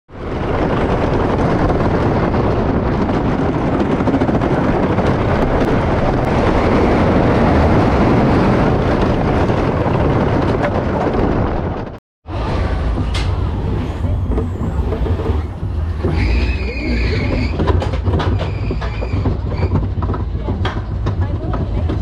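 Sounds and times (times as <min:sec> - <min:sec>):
roller coaster rumble and rattle: 0:00.1 - 0:22.0
wind rushing past microphone: 0:00.1 - 0:22.0.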